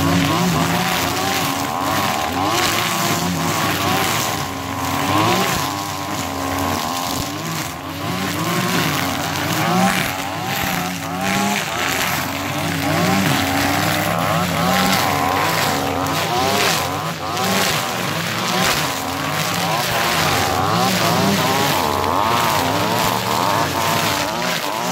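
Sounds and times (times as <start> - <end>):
brush cutters cutting brush: 0.0 - 24.9.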